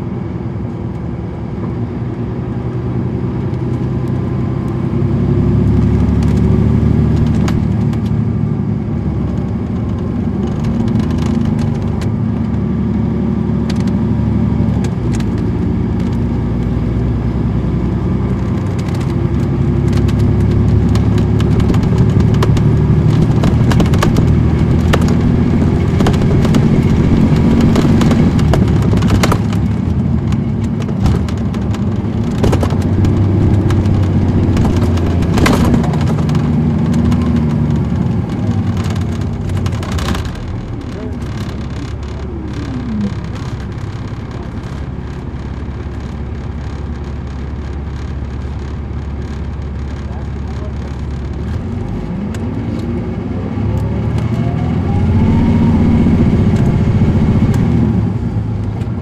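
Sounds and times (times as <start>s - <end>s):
bus engine drone: 0.0s - 59.0s
sharp clicks and rattles: 5.6s - 17.0s, 17.9s - 53.0s, 54.1s - 59.0s.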